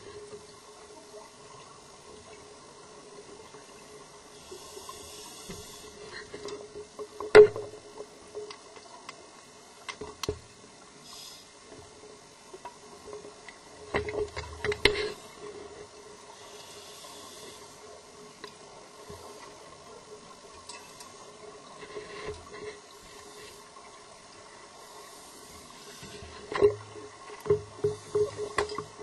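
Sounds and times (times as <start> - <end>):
steady low underwater hum: 0.0 - 29.0.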